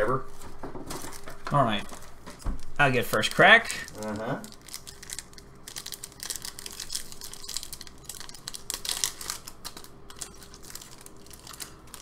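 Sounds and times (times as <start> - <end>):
foil wrapper crinkling and tearing: 0.9 - 12.0.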